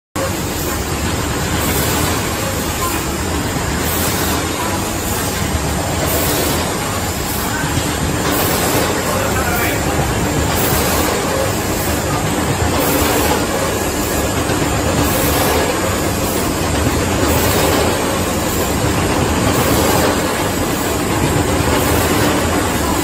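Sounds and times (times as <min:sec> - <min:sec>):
card cutting machine running: 0:00.2 - 0:23.0.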